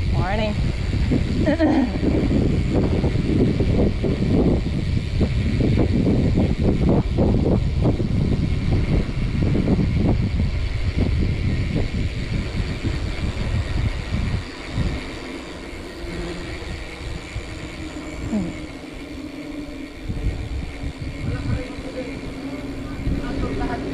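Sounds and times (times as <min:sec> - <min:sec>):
road and wind noise: 0:00.0 - 0:23.9.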